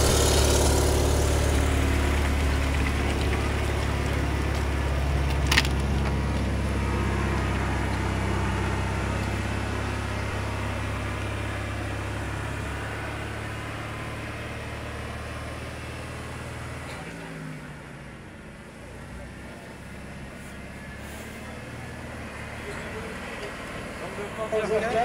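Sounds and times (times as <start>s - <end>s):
tank engine running: 0.0s - 25.0s.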